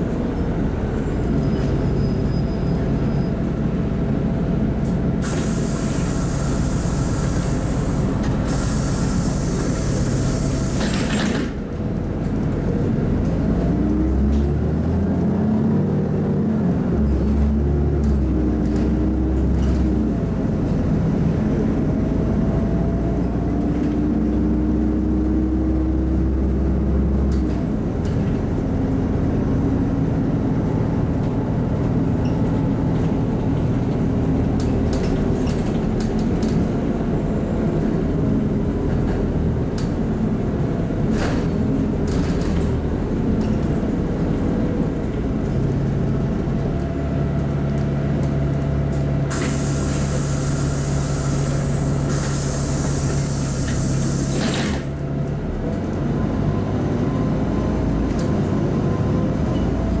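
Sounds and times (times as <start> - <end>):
bus engine running: 0.0 - 60.0
road noise: 0.0 - 60.0.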